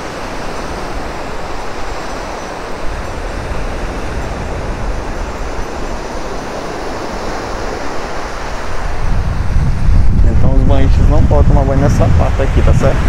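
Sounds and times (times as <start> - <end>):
small waves washing onto beach: 0.0 - 13.0
wind buffeting microphone: 0.0 - 13.0.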